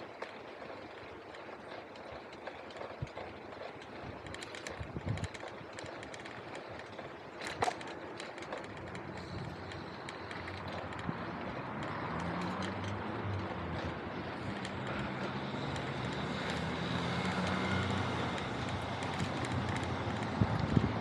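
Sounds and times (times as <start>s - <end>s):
motor vehicle engine hum: 0.0s - 21.0s
road noise: 0.0s - 21.0s.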